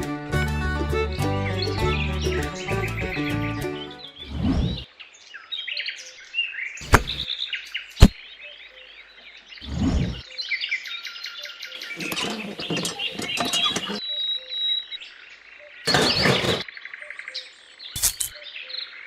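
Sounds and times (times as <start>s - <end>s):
small birds chirping: 1.0s - 19.0s.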